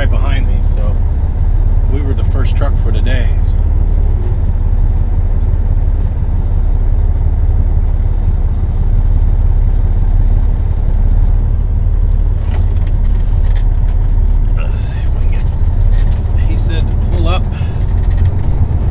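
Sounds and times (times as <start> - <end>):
diesel truck engine rumbling: 0.0 - 18.9.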